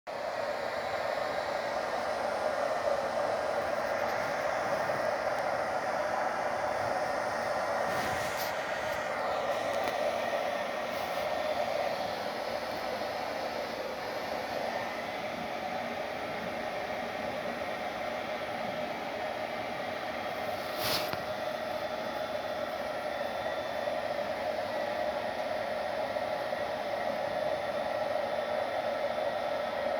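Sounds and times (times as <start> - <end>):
blower motor humming: 0.1 - 29.9.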